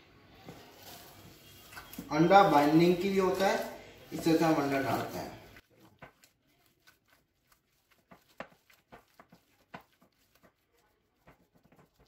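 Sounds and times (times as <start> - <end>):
hands squishing minced meat: 0.3 - 12.0.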